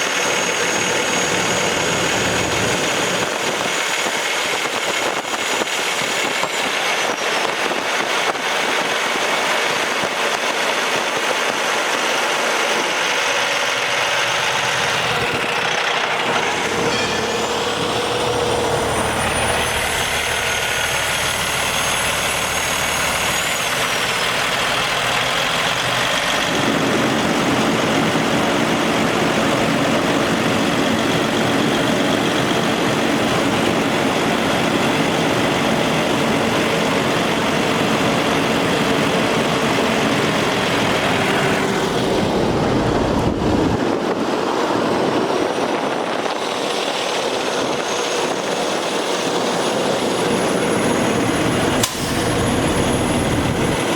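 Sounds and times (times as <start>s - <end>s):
diesel truck engine rumbling: 0.0s - 53.9s.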